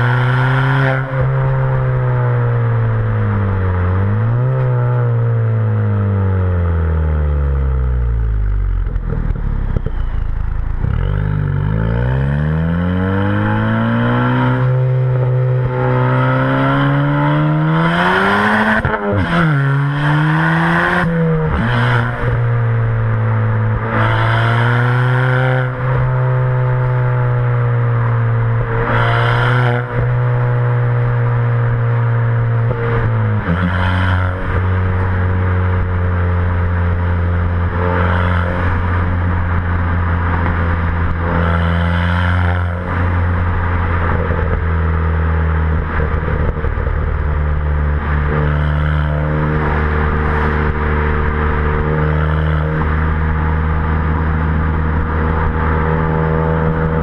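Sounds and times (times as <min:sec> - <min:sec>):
car exhaust revving: 0:00.0 - 0:57.0.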